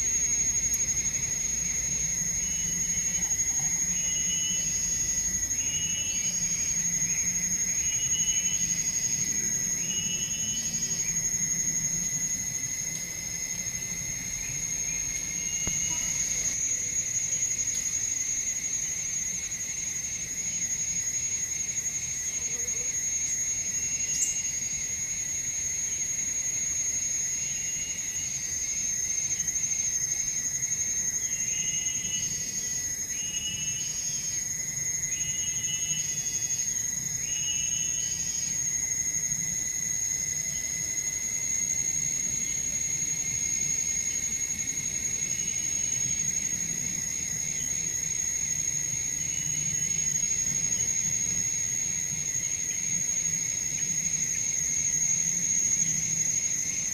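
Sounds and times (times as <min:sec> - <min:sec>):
insects droning high: 0:00.0 - 0:56.9.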